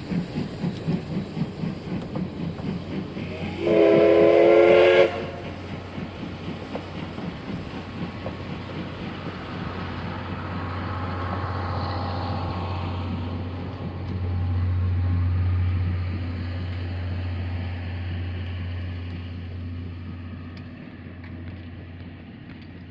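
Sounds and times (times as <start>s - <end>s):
steam train rumbling past: 0.0s - 22.9s.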